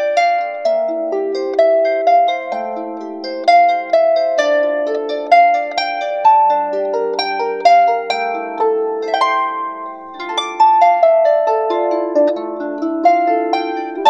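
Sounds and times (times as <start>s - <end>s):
harp plucked melody: 0.0s - 14.0s.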